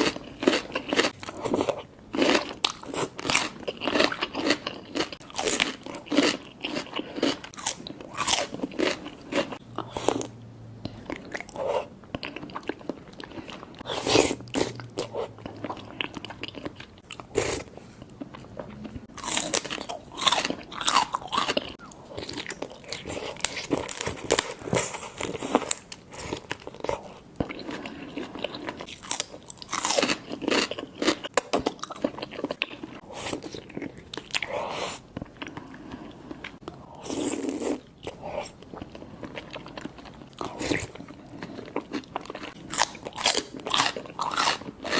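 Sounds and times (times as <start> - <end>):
biting and chewing shrimp: 0.0 - 44.9.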